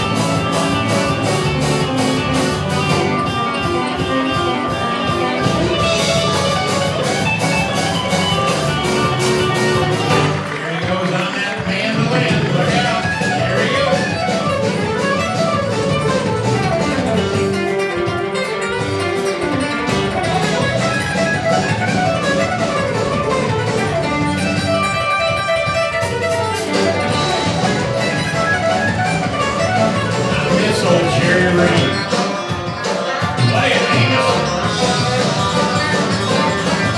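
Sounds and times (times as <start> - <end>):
country band playing: 0.0 - 36.9
fast picked mandolin: 0.0 - 36.9.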